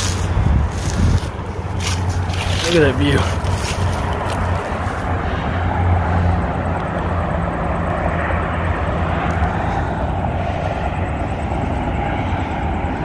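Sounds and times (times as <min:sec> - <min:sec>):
distant engine drone: 0:00.0 - 0:13.0
outdoor noise: 0:00.0 - 0:13.0.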